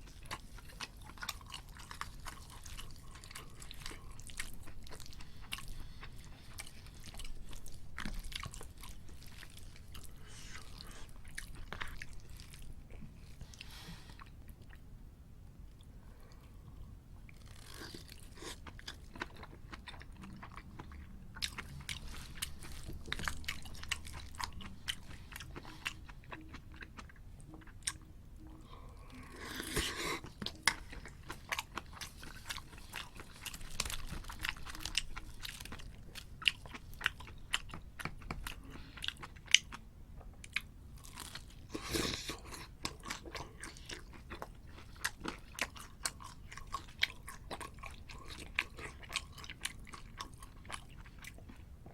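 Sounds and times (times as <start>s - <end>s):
crunching and chewing food: 0.0s - 14.9s, 15.7s - 51.9s.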